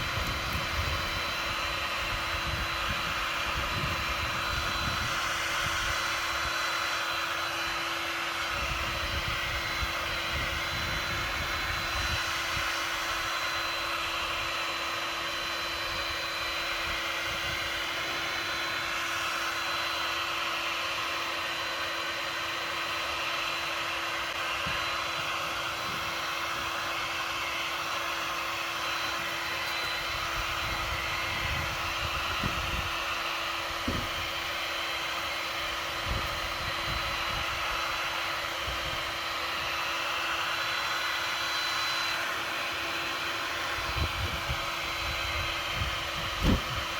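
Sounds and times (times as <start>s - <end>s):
heat gun blowing hot air: 0.0s - 46.9s.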